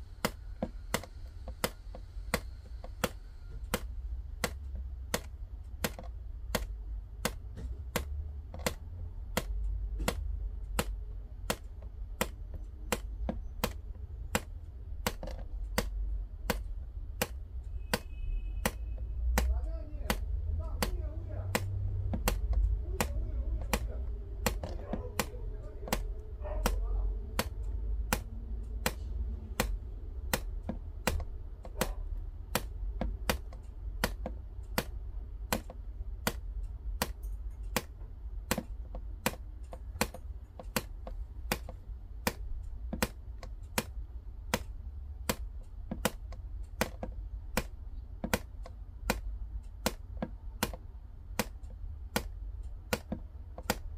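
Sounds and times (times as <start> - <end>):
low background rumble: 0.0 - 53.9
sharp ticks: 0.0 - 53.9.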